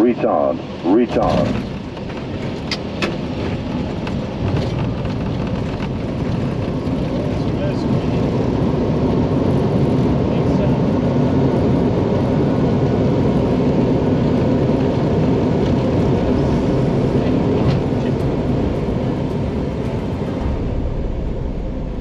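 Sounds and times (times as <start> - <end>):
aircraft engine and airflow rush: 0.0 - 22.0.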